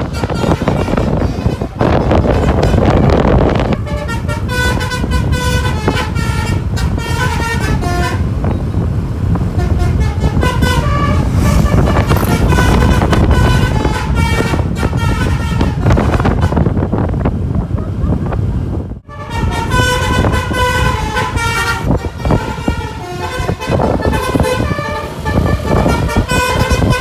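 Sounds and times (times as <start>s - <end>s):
bus horn playing a tune: 0.0s - 17.2s, 19.0s - 27.0s
bus engine rumble: 0.0s - 27.0s.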